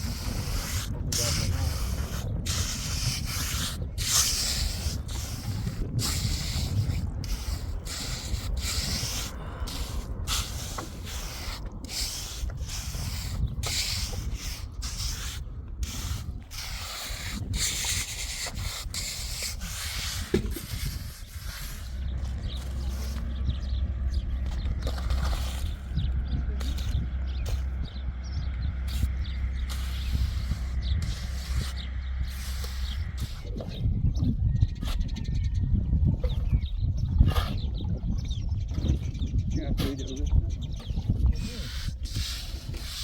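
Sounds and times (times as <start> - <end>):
tool scraping wet concrete: 0.0 - 28.0, 28.9 - 33.8, 40.8 - 43.0.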